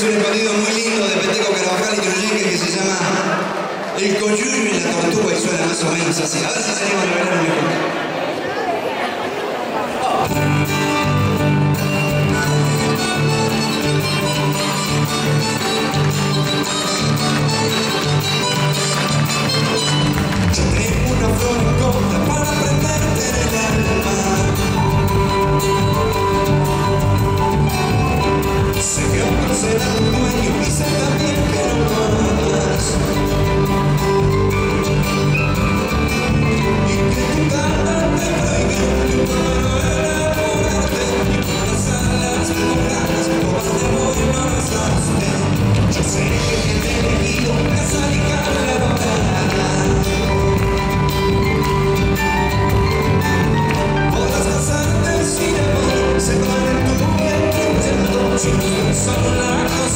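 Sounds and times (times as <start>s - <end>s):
folk band playing dance tune: 10.1s - 59.9s.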